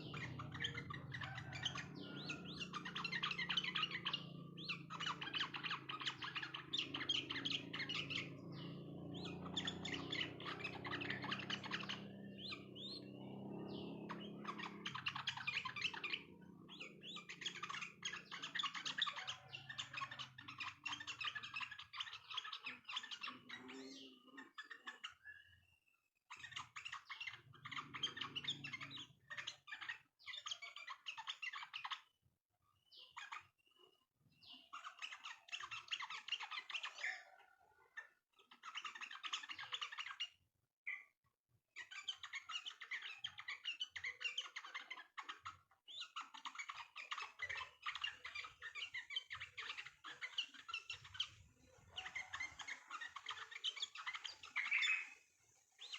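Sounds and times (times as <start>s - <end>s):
bulbul chattering chirps: 0.0s - 25.6s, 26.3s - 32.1s, 41.8s - 55.9s.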